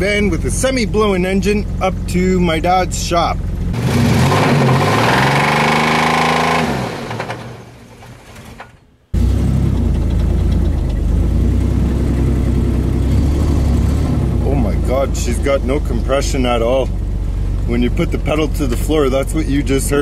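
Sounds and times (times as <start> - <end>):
engine droning while driving: 0.0 - 20.0
van engine revving: 0.0 - 20.0.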